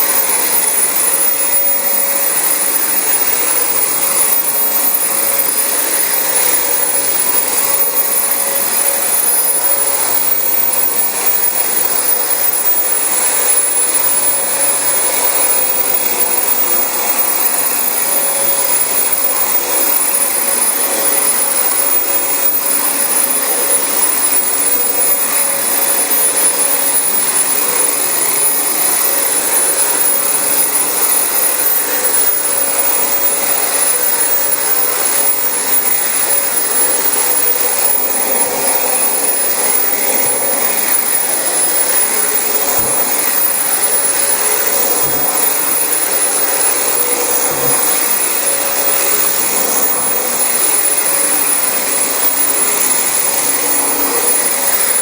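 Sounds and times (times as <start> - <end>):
upright vacuum cleaner running: 0.0 - 55.0.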